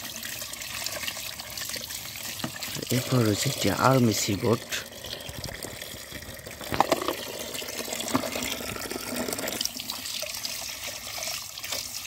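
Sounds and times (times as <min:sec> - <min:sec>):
water pouring into tub: 0:00.0 - 0:12.0.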